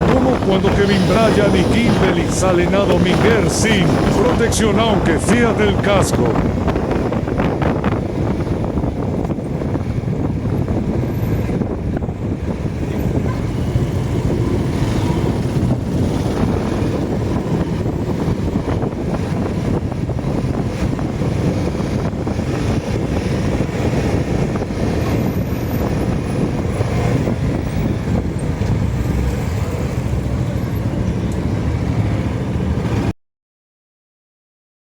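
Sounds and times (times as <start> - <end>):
traffic rumble: 0.0 - 33.1.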